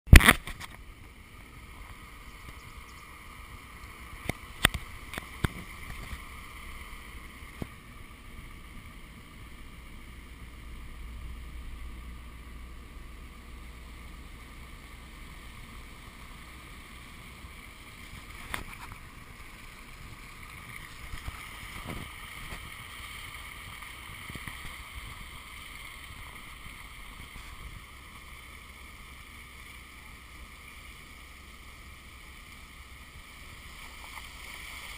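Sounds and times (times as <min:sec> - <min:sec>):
water washing around tyres: 0:00.1 - 0:34.9
vehicle engine hum: 0:00.2 - 0:34.9.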